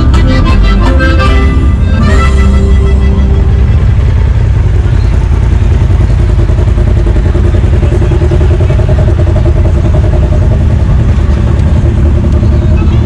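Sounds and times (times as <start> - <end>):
vehicle engine running loudly: 0.0 - 13.0.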